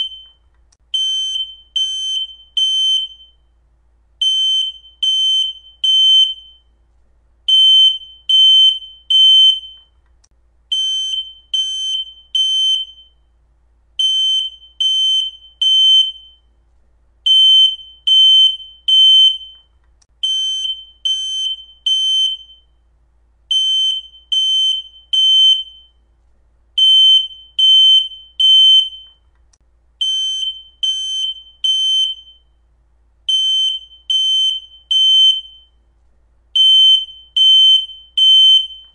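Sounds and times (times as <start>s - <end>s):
smoke detector alarm beeps: 0.0s - 3.5s, 4.2s - 6.7s, 7.5s - 9.9s, 10.7s - 13.3s, 14.0s - 16.5s, 17.3s - 22.8s, 23.5s - 26.0s, 26.8s - 29.3s, 30.0s - 32.6s, 33.3s - 35.8s, 36.6s - 38.9s.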